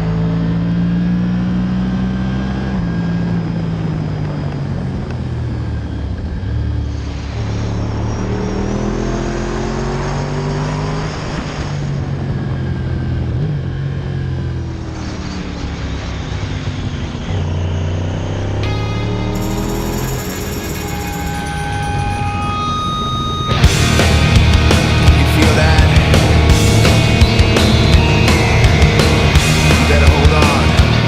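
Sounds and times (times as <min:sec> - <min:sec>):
motorcycle engine shifting gears: 0:00.0 - 0:31.0.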